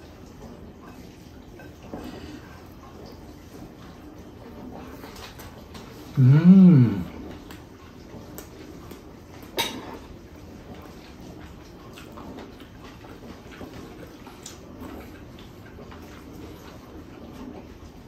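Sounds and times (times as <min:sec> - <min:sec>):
soft chewing: 0:00.2 - 0:18.0.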